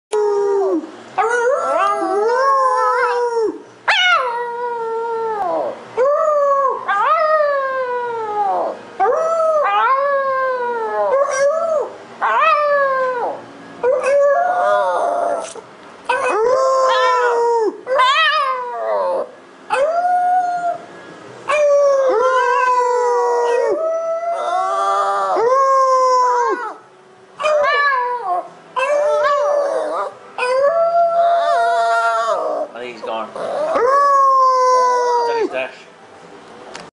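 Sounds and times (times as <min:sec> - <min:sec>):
small dog howling: 0:00.1 - 0:20.8, 0:21.5 - 0:26.8, 0:27.4 - 0:35.6.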